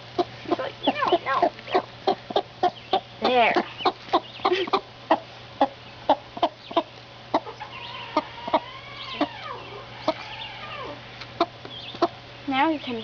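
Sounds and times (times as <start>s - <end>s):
hen clucking softly: 0.2s - 12.2s
hen drawn-out call: 0.2s - 12.2s.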